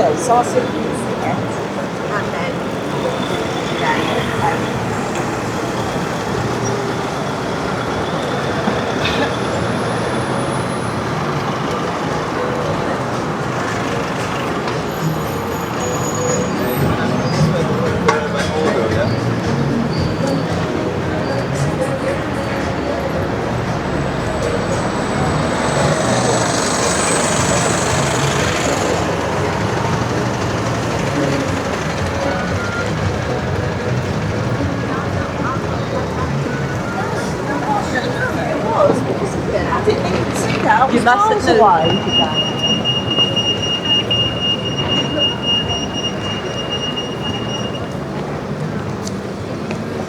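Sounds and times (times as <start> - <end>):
road traffic noise: 0.0 - 50.0.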